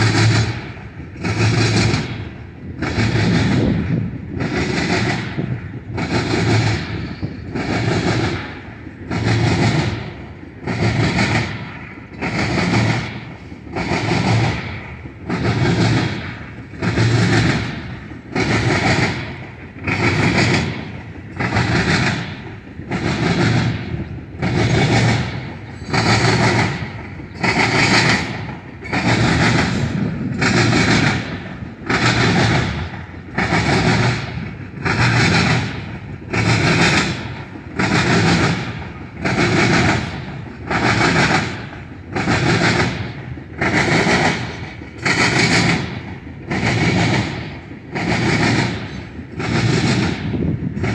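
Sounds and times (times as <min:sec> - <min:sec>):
train wheels clacking over rail joints: 0:00.0 - 0:50.9.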